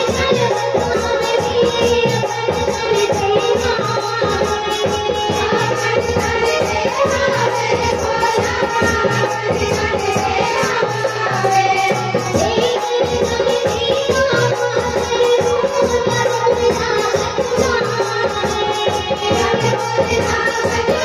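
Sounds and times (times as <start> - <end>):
drum beat: 0.0 - 21.0
girl singing through microphone: 0.0 - 21.0.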